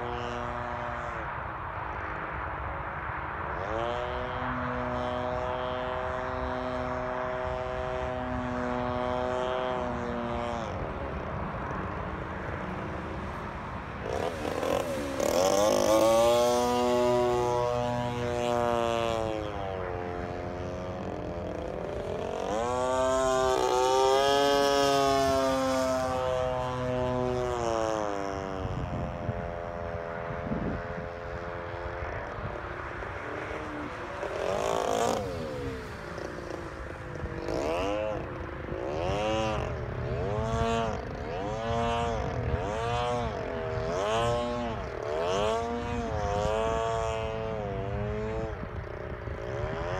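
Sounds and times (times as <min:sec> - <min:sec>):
model plane engine buzzing: 0:00.0 - 0:49.9.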